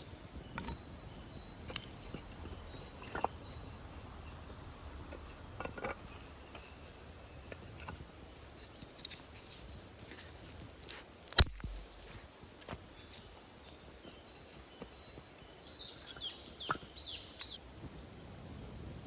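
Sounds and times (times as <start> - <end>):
gear clicking and rustling: 0.0 - 17.6.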